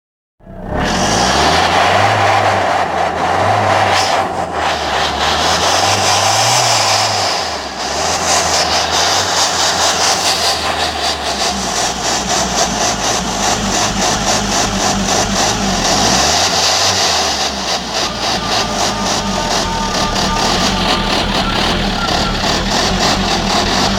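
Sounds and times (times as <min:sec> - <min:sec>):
loud engine exhaust revving: 0:00.4 - 0:23.9.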